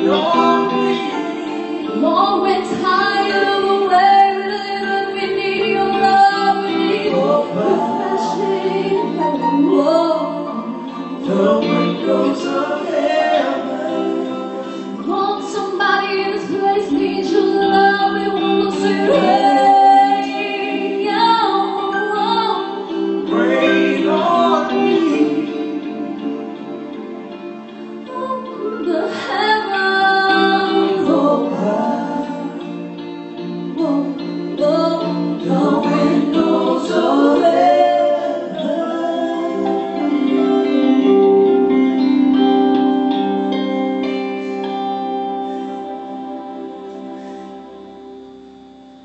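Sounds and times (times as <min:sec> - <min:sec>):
woman singing: 0:00.0 - 0:27.3, 0:27.9 - 0:32.7, 0:33.4 - 0:42.5
guitar: 0:00.0 - 0:49.0
keyboard chords: 0:00.0 - 0:49.0.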